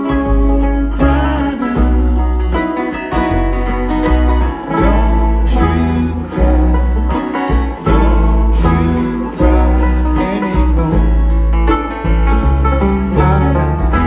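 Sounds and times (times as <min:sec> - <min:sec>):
acoustic guitar picking: 0:00.0 - 0:14.0
banjo picking: 0:00.0 - 0:14.0
bluegrass band playing live: 0:00.0 - 0:14.0
upright bass notes: 0:00.0 - 0:14.0.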